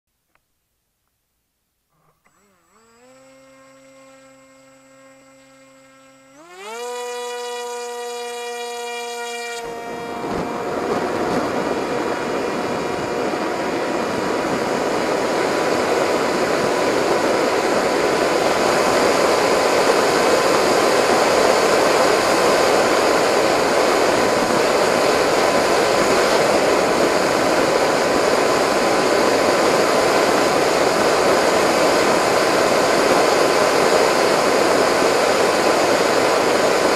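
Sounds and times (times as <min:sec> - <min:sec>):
model plane motor whine: 0:01.9 - 0:36.9.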